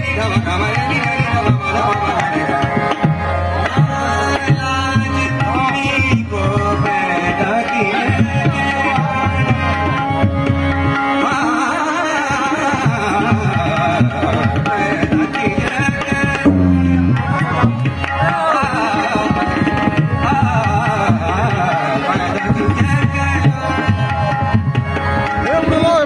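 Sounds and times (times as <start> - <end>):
harmonium held notes: 0.0 - 26.0
tabla playing fast rhythm: 0.0 - 26.0.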